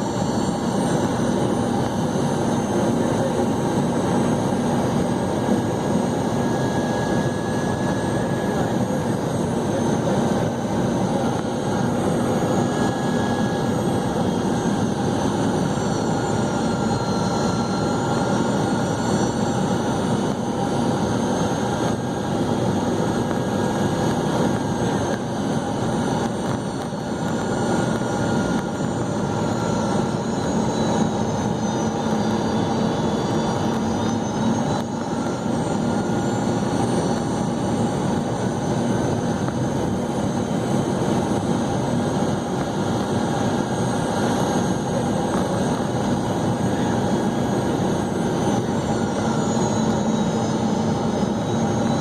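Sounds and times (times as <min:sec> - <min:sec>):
jet cabin roar: 0:00.0 - 0:52.0.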